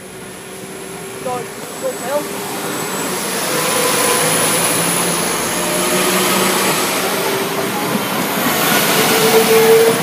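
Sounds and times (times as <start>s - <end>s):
diesel train passing: 0.0s - 10.0s.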